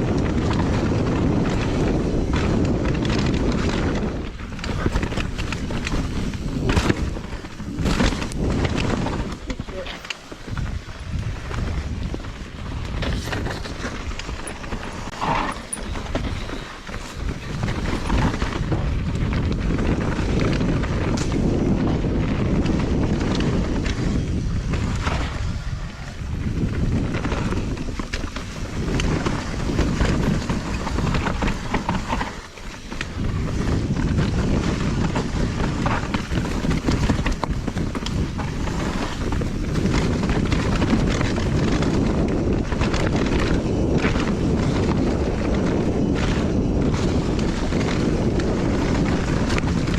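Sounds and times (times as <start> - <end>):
bike knocks and rattles: 0.0 - 49.9
tyres rumbling on dirt: 0.0 - 49.9
wind rushing over microphone: 0.0 - 49.9.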